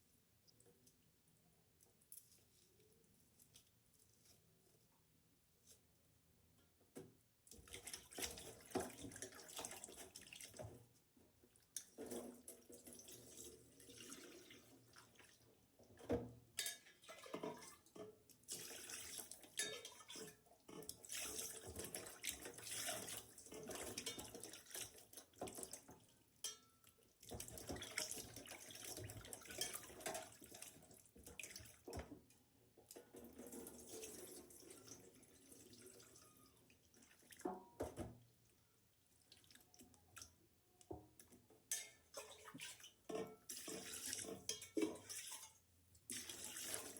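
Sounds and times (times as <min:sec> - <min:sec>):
water splashing and sloshing: 0:07.5 - 0:46.9.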